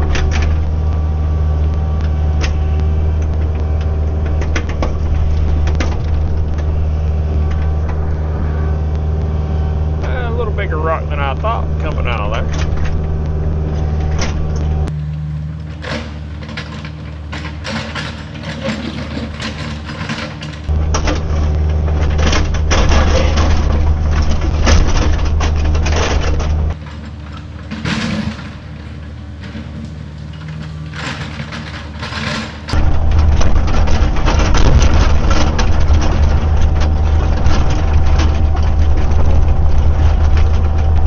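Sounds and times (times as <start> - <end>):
diesel engine working: 0.0 - 41.0.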